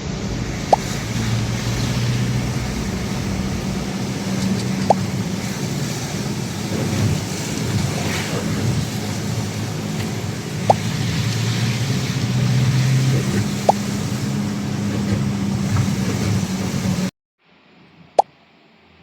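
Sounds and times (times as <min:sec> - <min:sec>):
vehicle engine rumble: 0:00.0 - 0:17.1.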